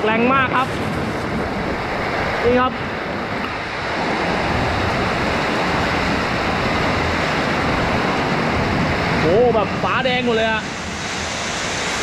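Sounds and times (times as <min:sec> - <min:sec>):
heavy rain pouring: 0:00.0 - 0:12.0
wind: 0:00.0 - 0:12.0.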